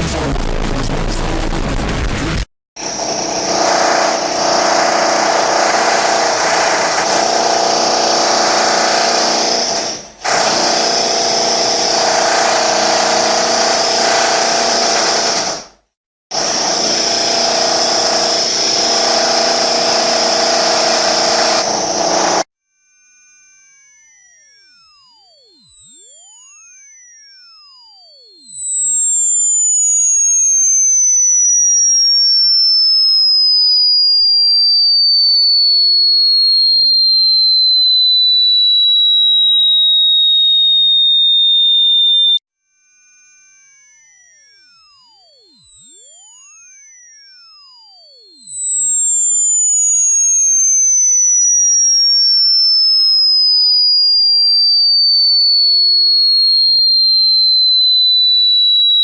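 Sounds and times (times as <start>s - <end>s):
high-pitched electronic sine tone: 2.8s - 10.5s, 17.2s - 59.0s.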